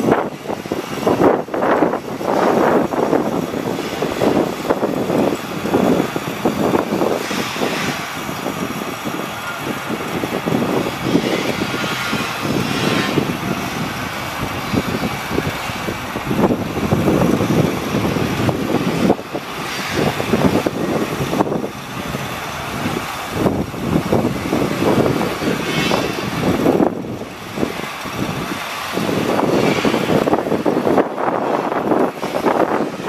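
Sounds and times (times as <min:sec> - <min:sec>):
engine running with rough rumble: 0:00.0 - 0:33.0.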